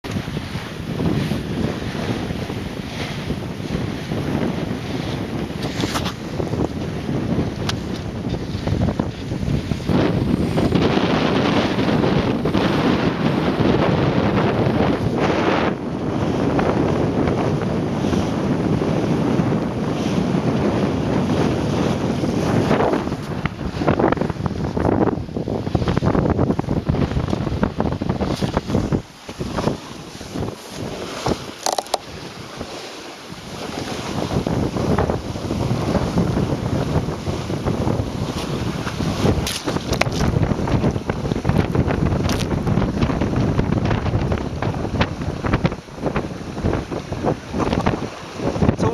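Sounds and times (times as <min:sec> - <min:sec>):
water rushing along boat hull: 0:00.0 - 0:48.9
wind noise on microphone: 0:00.0 - 0:48.9.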